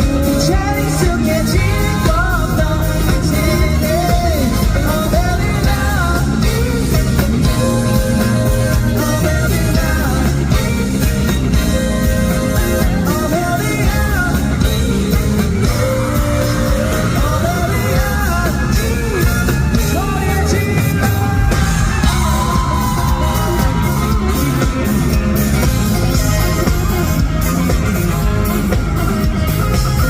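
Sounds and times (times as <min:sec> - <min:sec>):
live rock band playing: 0:00.0 - 0:30.0
person singing: 0:00.0 - 0:30.0.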